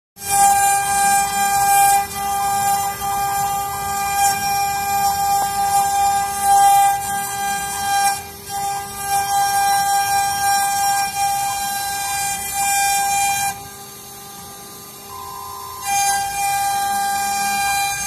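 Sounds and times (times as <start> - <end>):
hissing cutting noise: 0.2 - 18.0
wood router whining: 0.2 - 18.0.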